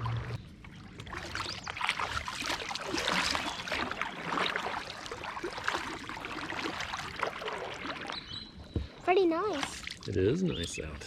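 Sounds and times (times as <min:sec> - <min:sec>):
kayak paddles splashing in water: 0:00.0 - 0:10.2
water trickling off paddle blades: 0:00.0 - 0:10.9.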